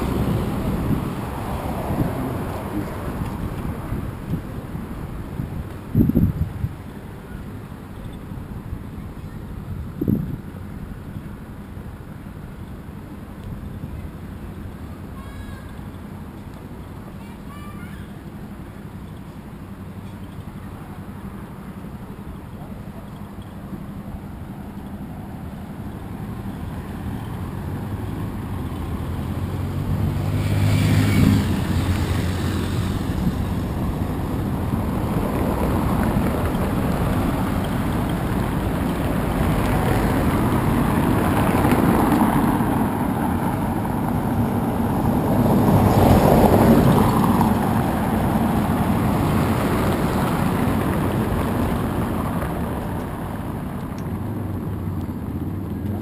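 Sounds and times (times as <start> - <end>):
cars and motorcycles passing: 0.0 - 56.0.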